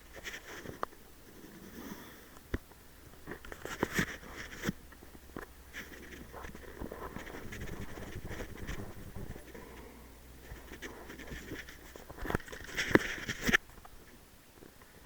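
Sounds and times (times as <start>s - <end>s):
soft rustling: 0.0s - 15.0s.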